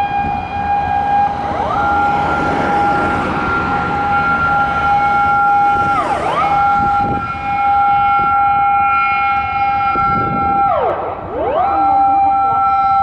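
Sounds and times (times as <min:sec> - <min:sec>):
electronic two-tone siren: 0:00.0 - 0:13.0.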